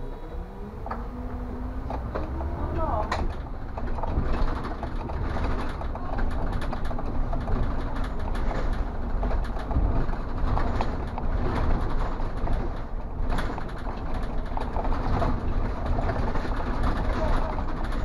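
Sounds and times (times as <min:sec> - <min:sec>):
bus engine rumble: 0:00.0 - 0:18.0
road noise: 0:00.0 - 0:18.0
bodywork rattles and clicks: 0:01.7 - 0:18.0.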